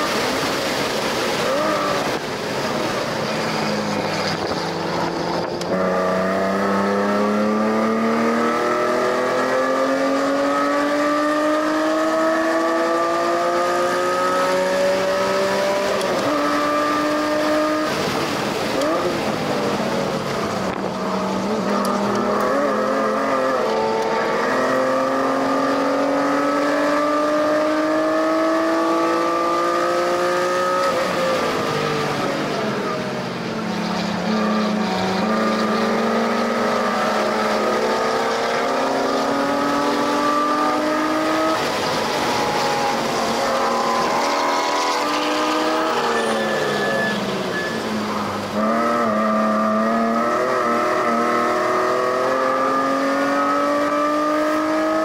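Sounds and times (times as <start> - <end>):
car engine revving on track: 0.0 - 55.0.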